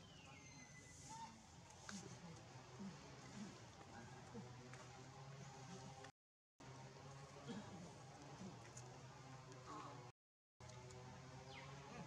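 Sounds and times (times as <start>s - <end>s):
steady low hum: 1.0s - 12.0s.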